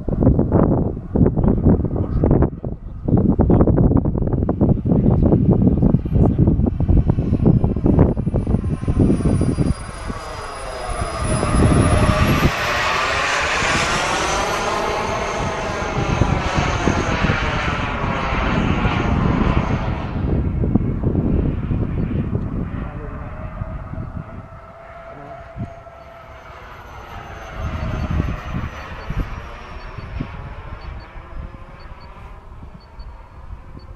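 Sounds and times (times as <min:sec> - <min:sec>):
model jet whine flying past: 0:00.0 - 0:33.9
wind buffeting microphone: 0:00.0 - 0:33.9.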